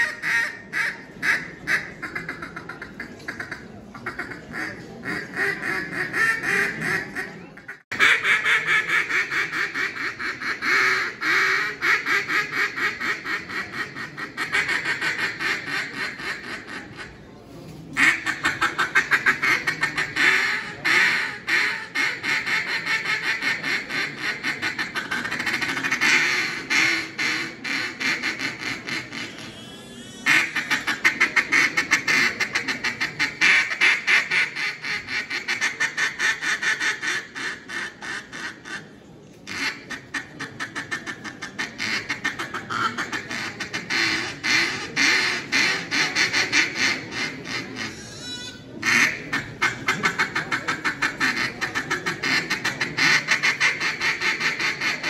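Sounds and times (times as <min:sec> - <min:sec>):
duck call quacking: 0:00.0 - 0:17.1, 0:18.0 - 0:38.8, 0:39.4 - 0:55.0.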